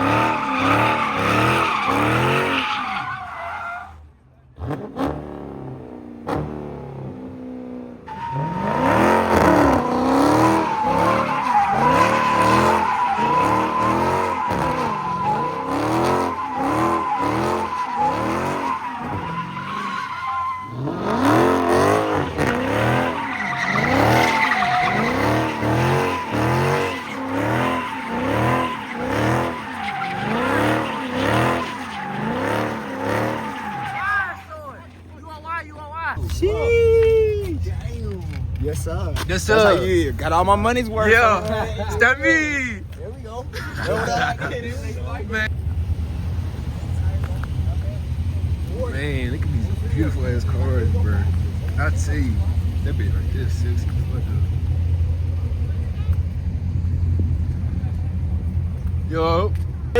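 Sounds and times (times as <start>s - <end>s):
car engine revving: 0.0s - 3.9s, 4.5s - 35.2s, 37.4s - 59.9s
tires squealing: 0.0s - 7.0s, 7.6s - 59.9s.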